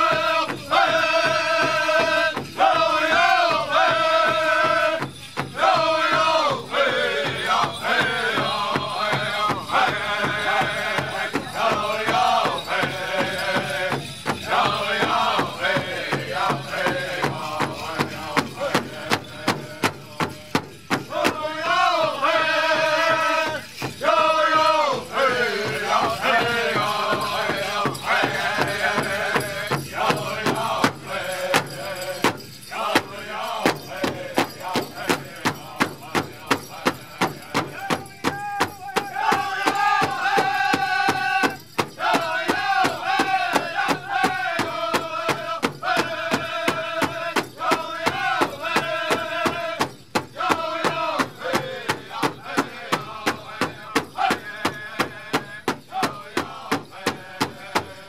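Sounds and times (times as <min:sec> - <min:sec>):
large hide drum beating: 0:00.0 - 0:58.0
voices singing in unison: 0:00.0 - 0:58.0.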